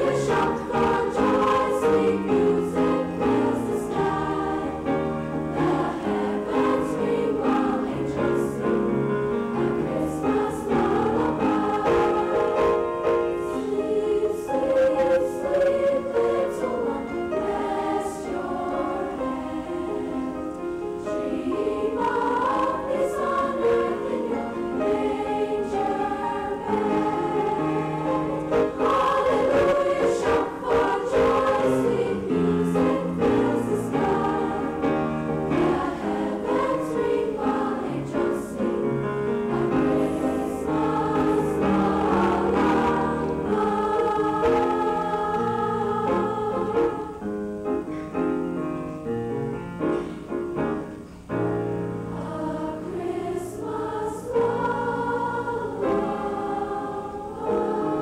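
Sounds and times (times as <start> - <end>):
choir singing: 0.0 - 47.8, 51.7 - 58.0.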